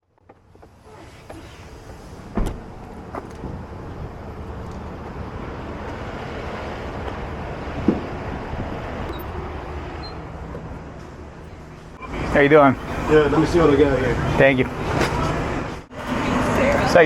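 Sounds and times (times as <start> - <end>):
road vehicle running: 0.0 - 17.0.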